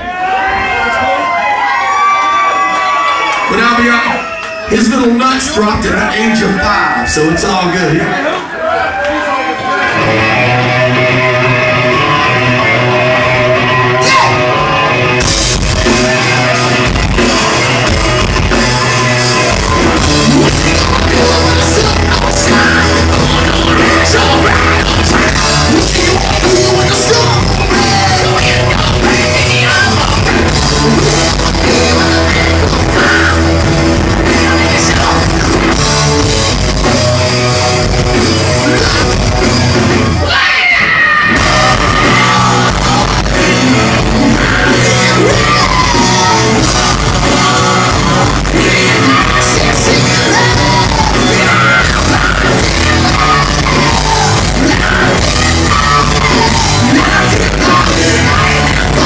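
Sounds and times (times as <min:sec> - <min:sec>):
rock band playing: 0:00.0 - 0:59.0
lead singer singing: 0:10.0 - 0:59.0.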